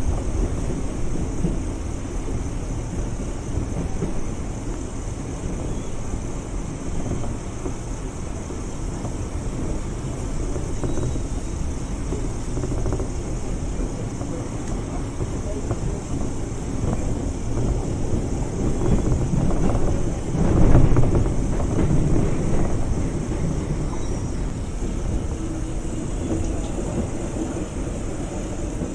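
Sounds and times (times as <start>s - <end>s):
electric train running rumble: 0.0s - 28.9s.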